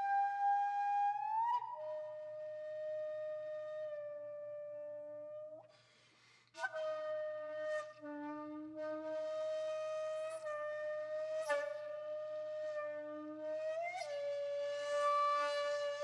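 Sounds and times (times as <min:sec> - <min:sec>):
solo flute sustained notes: 0:00.0 - 0:05.7, 0:06.6 - 0:16.0.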